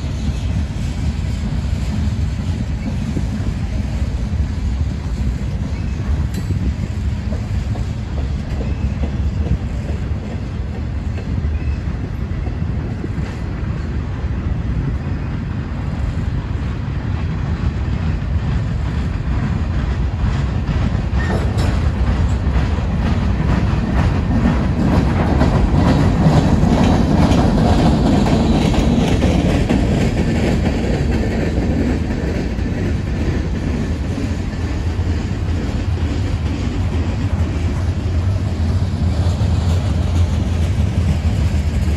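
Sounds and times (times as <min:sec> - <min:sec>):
wheels clacking over rail joints: 0:00.0 - 0:13.9, 0:17.1 - 0:41.9
freight train rumbling: 0:00.0 - 0:41.9.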